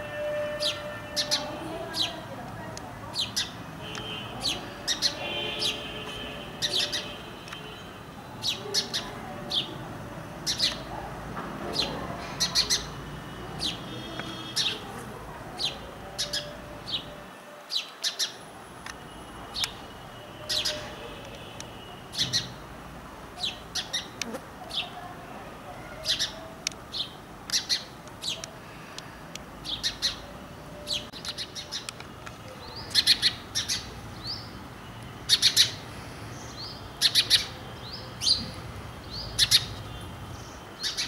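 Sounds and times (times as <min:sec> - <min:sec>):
sparrows chirping: 0:00.4 - 0:22.7, 0:23.3 - 0:25.1, 0:25.7 - 0:28.9, 0:29.6 - 0:41.0.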